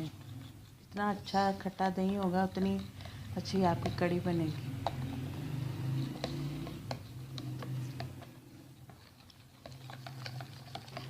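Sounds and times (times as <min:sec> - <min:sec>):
utensil stirring batter in bowl: 0:00.0 - 0:11.0
utensil clicking against bowl: 0:01.3 - 0:11.0.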